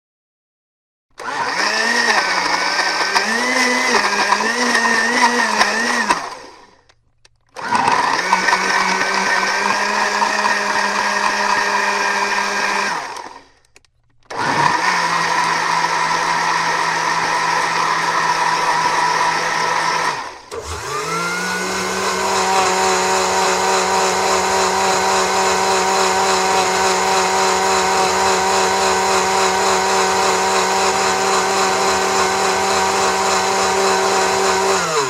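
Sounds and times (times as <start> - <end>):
blender motor whining: 1.1 - 6.9, 7.6 - 13.6, 14.3 - 35.0.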